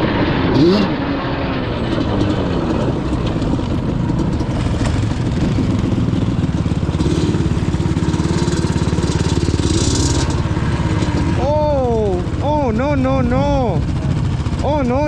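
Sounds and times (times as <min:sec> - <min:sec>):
two-stroke engine running at low revs: 0:00.0 - 0:15.0.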